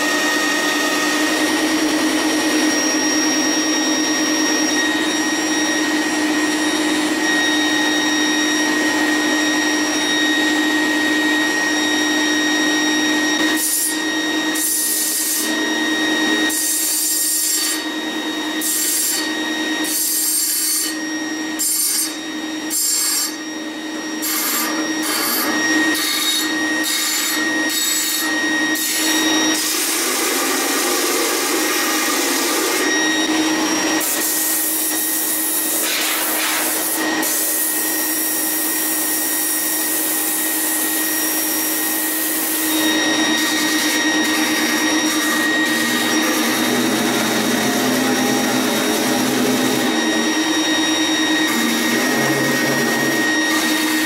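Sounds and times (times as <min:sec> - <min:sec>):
disc sander motor hum and whine: 0:00.0 - 0:54.0.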